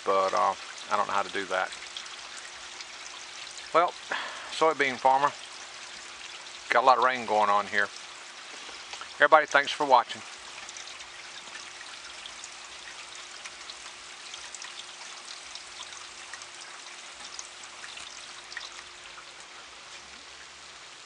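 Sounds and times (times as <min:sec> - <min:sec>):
close drips ticking: 0:00.0 - 0:20.8
steady rain: 0:00.0 - 0:21.0.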